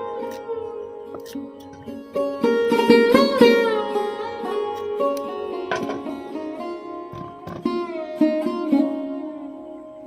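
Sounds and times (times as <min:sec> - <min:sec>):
plucked string instrument music: 0:00.0 - 0:10.0.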